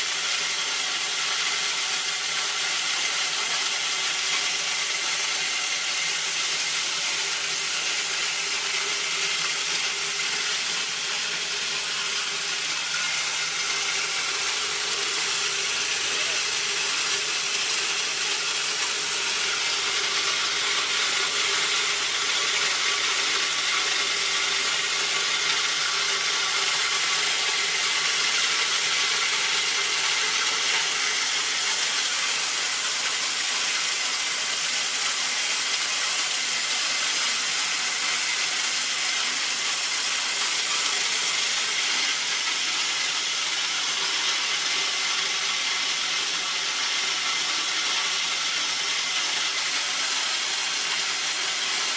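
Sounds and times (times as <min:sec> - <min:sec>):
grain mill grinding: 0:00.0 - 0:51.9.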